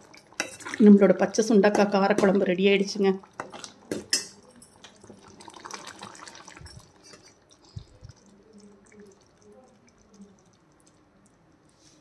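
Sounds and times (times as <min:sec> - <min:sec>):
ladle stirring in steel pot: 0:00.0 - 0:11.7
curry simmering with bubbling pops: 0:00.0 - 0:11.8.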